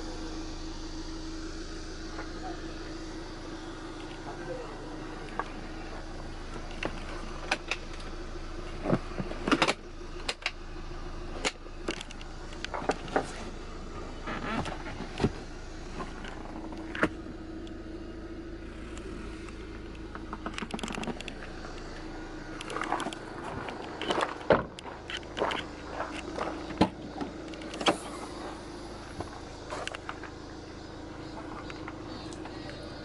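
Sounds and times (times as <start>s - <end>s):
power window motor hum: 0.0s - 33.0s.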